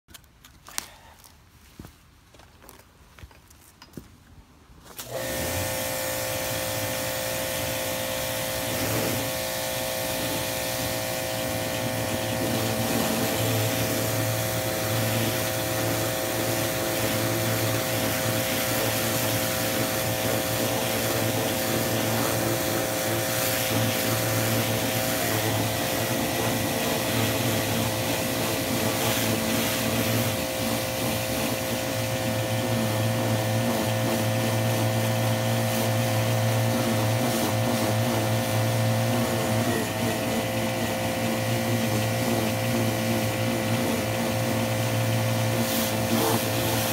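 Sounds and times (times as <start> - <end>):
pressure washer spraying: 5.0 - 46.9.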